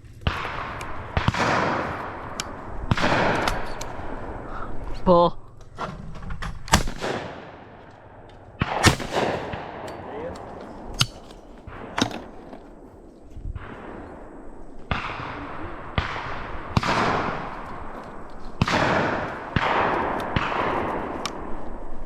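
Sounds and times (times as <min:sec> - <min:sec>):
shotgun shots echoing: 0:00.2 - 0:04.4, 0:06.7 - 0:21.6.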